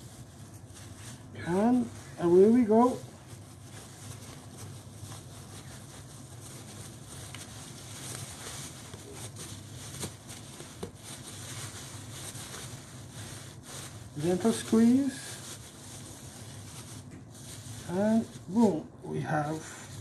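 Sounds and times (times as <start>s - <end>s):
low room hum: 0.0s - 20.0s
soft rustling and handling: 0.0s - 20.0s.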